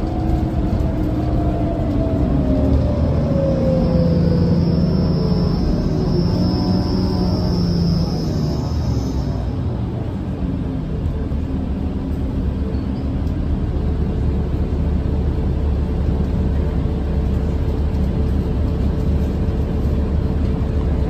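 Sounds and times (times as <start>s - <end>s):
bus diesel engine rumble: 0.0s - 21.0s
road noise: 0.0s - 21.0s.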